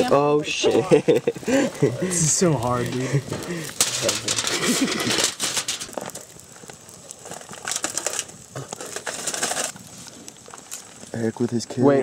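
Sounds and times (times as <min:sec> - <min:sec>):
aluminium foil crinkling: 0:00.0 - 0:11.9.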